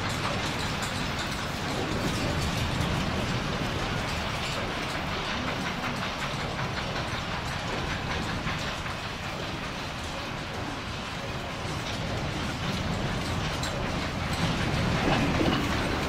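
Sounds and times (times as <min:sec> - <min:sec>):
earthquake rumble with rattling: 0:00.0 - 0:16.0.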